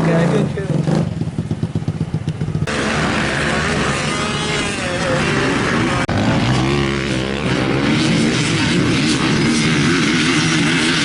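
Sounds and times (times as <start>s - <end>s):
dirt bike engines revving: 0.0s - 11.0s
dirt bike engine idling: 0.4s - 11.0s.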